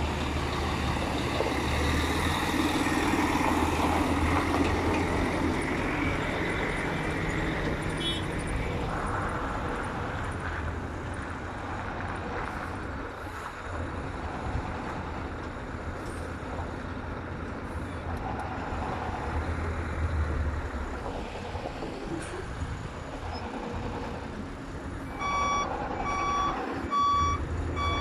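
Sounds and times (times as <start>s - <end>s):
heavy vehicle engine rumbling: 0.0s - 28.0s.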